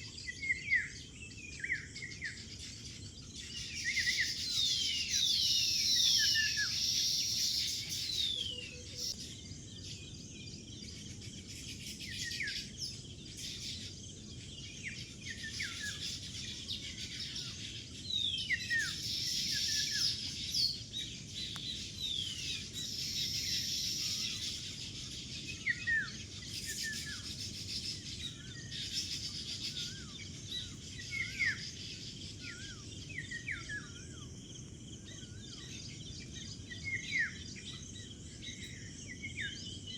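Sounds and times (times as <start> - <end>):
birds chirping: 0.6 - 39.9.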